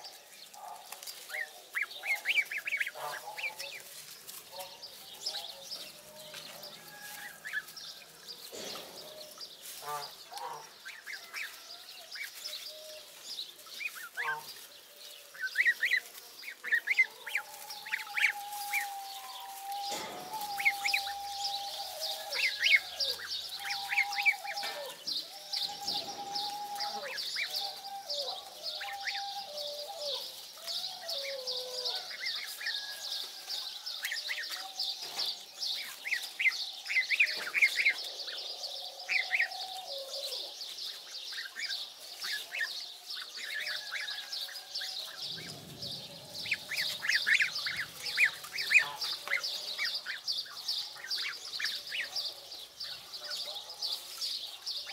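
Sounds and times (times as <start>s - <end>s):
goslings peeping and whistling: 0.6s - 14.7s, 15.3s - 33.0s, 34.0s - 38.4s, 39.0s - 39.9s, 40.9s - 52.2s.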